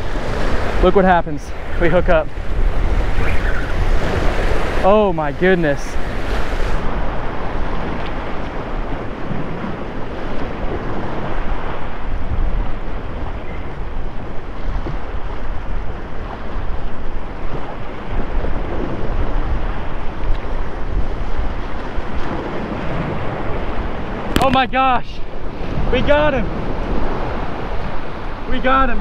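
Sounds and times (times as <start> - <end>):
waves breaking over rocks: 0.0 - 29.0
wind buffeting microphone: 0.0 - 29.0.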